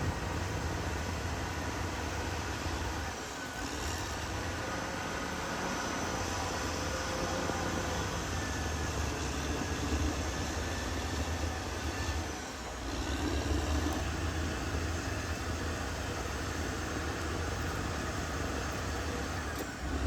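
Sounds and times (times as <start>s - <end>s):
bulldozer diesel engine rumbling: 0.0s - 20.0s.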